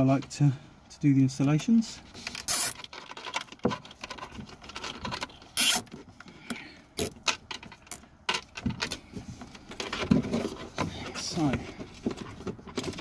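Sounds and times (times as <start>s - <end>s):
cable handling clicks and knocks: 1.4s - 13.0s.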